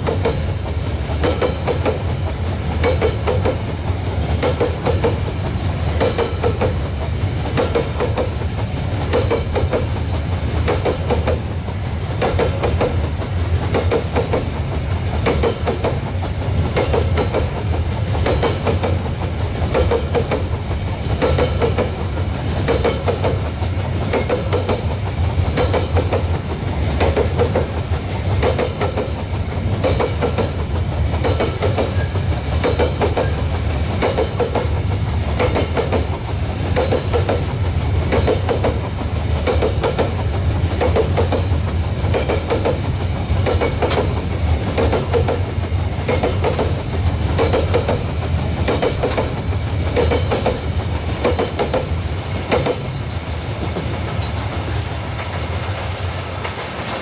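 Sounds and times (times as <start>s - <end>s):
low train rumble: 0.0s - 57.0s
train wheels clacking over rail joints: 0.0s - 57.0s.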